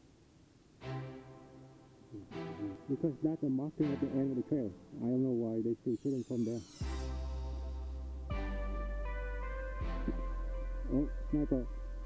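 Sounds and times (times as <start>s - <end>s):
sustained cinematic music chord: 0.8s - 4.9s, 6.0s - 12.0s.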